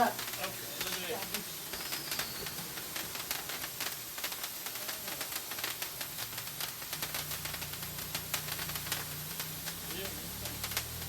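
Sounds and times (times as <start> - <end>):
sparklers hissing and crackling: 0.0 - 11.0.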